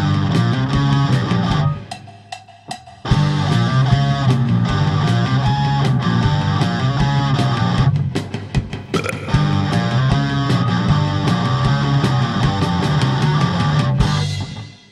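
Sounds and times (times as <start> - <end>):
instrumental rock band playing: 0.0 - 1.9, 3.0 - 14.8.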